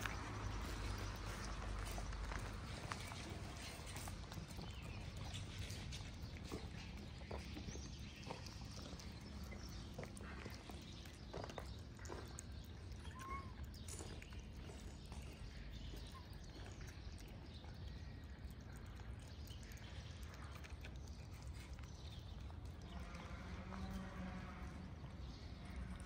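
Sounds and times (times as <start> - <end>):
cats chewing and smacking: 0.0 - 26.0.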